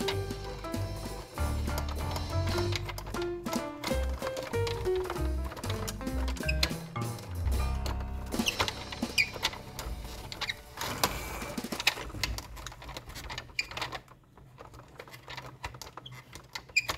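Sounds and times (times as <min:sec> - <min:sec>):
plastic toy vehicles clicking: 0:00.0 - 0:07.3, 0:08.4 - 0:16.9.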